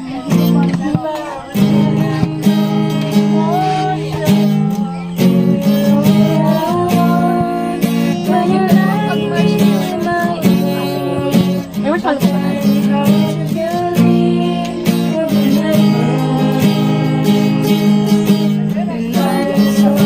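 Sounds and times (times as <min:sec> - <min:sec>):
person singing: 0:00.0 - 0:20.0
strummed acoustic guitar: 0:00.0 - 0:20.0.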